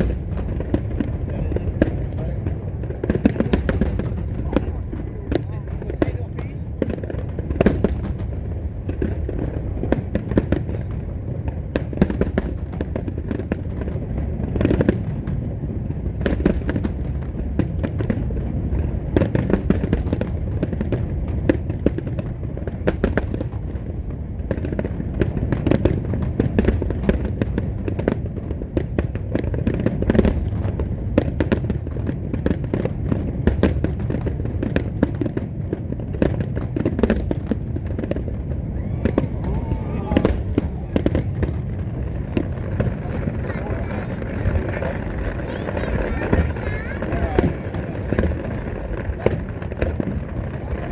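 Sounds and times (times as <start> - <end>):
fireworks bangs and bursts: 0.0 - 50.9.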